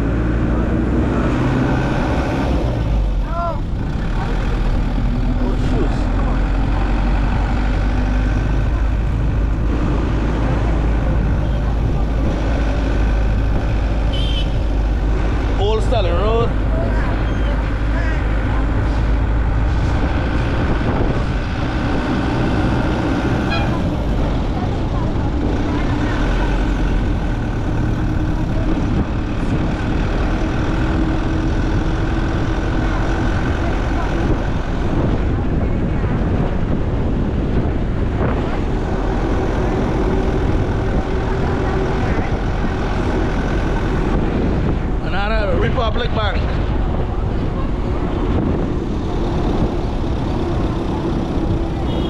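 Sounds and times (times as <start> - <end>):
vehicle interior road rumble: 0.0 - 52.0.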